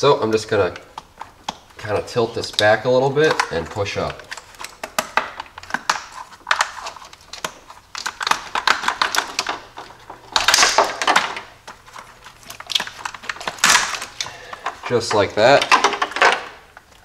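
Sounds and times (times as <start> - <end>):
plastic clicks and clatters: 0.3 - 17.0.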